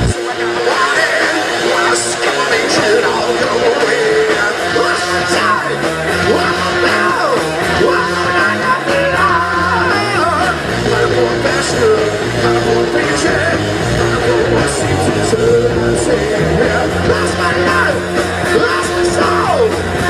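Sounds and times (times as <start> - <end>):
electric guitar lead: 0.0 - 20.0
rock band playing live: 0.0 - 20.0.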